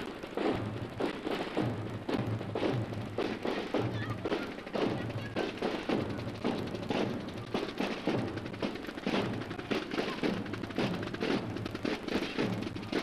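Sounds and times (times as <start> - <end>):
marching band drums: 0.0 - 13.0.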